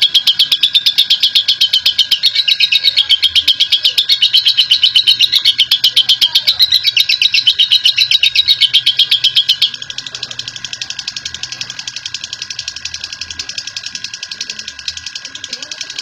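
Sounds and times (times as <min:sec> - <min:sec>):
lovebird shrill chatter: 0:00.0 - 0:16.0.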